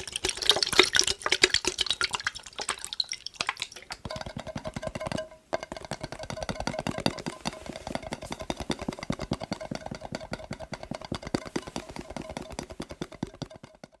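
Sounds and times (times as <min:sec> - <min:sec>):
fast tapping on glass jar: 0:00.0 - 0:14.0.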